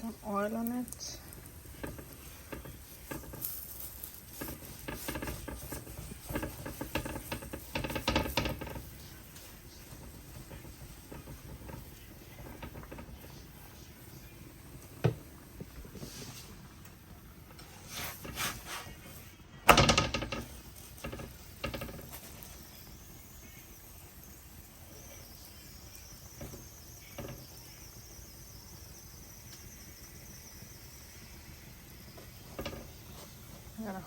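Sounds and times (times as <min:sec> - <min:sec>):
faint high sizzle on pan: 0:00.0 - 0:34.0
kitchen knocks and clatters: 0:00.8 - 0:28.0, 0:31.1 - 0:33.8.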